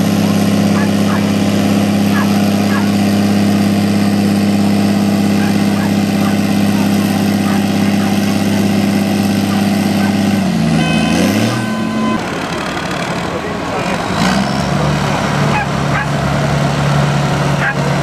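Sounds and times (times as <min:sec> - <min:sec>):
tractor diesel engine running hard: 0:00.0 - 0:18.0.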